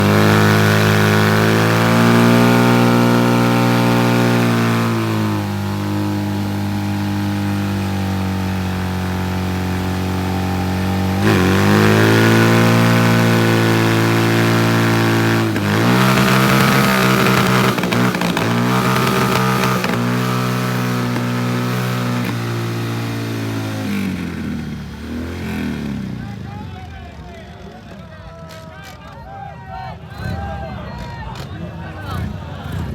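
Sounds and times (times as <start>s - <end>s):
motorcycle engine revving: 0.0s - 28.3s, 30.1s - 32.9s.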